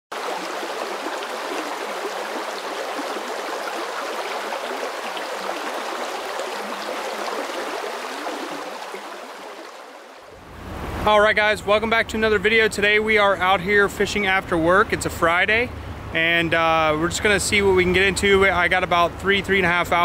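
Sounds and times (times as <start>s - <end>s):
stream water rushing: 0.1s - 20.0s.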